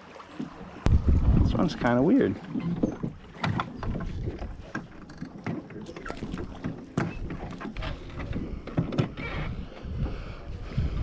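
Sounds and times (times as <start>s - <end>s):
small waves lapping against a dock: 0.0s - 11.0s
wind rumble on microphone: 0.8s - 4.9s, 6.0s - 11.0s.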